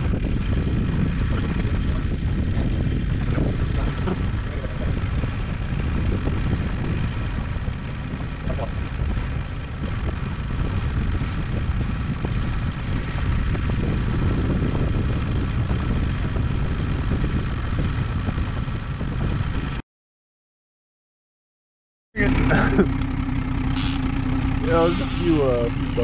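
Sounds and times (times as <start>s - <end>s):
outboard motor running: 0.0s - 19.8s, 22.2s - 26.0s
wind: 0.0s - 19.8s, 22.2s - 26.0s.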